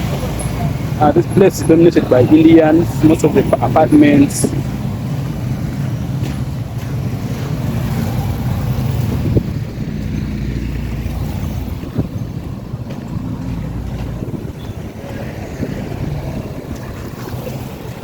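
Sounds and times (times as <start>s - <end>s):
street traffic rumble: 0.0s - 18.0s
wind buffeting microphone: 0.0s - 18.0s.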